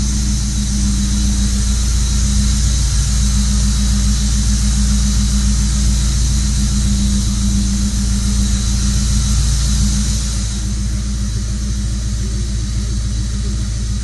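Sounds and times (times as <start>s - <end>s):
car engine running: 0.0s - 14.0s
high-pitched whine: 0.0s - 14.0s.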